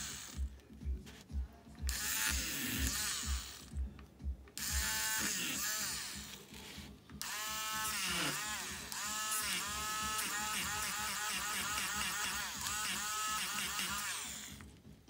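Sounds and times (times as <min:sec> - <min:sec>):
electric eraser motor whining: 0:00.0 - 0:00.4, 0:01.9 - 0:03.8, 0:04.6 - 0:14.7.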